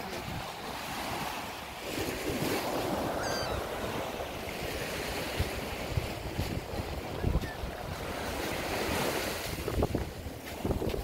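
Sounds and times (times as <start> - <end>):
waves breaking on sandy beach: 0.0 - 11.0
wind buffeting microphone: 0.0 - 11.0.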